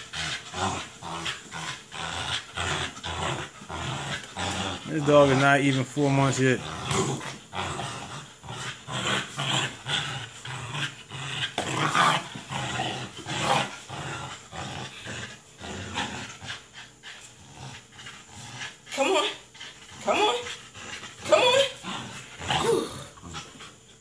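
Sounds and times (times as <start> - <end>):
puppy growling: 0.0 - 24.0.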